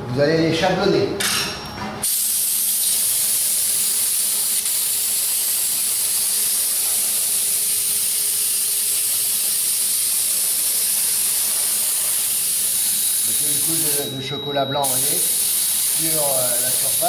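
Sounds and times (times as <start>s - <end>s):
spray gun hissing: 2.0s - 14.1s, 14.8s - 17.0s.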